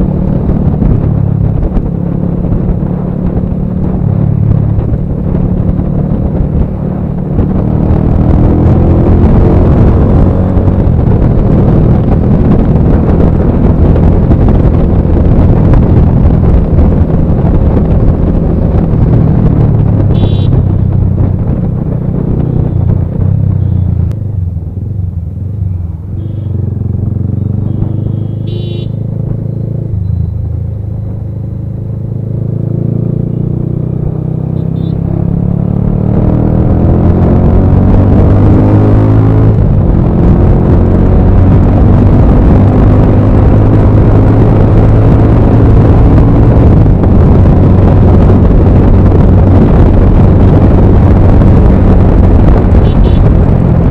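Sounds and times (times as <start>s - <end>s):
motorcycle engine at speed: 0.0s - 53.9s
wind rush: 0.0s - 53.9s.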